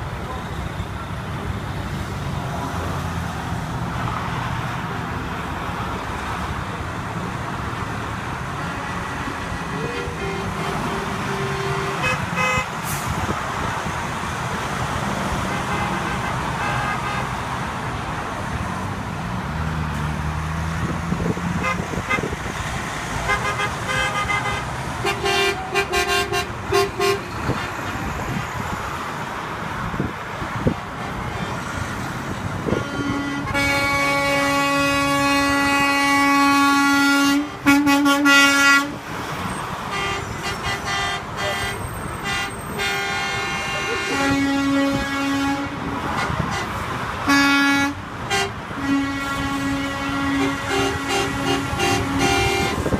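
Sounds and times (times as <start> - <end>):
truck engines passing: 0.0 - 52.9
truck horns honking: 3.5 - 18.9, 20.4 - 29.2, 30.0 - 52.9.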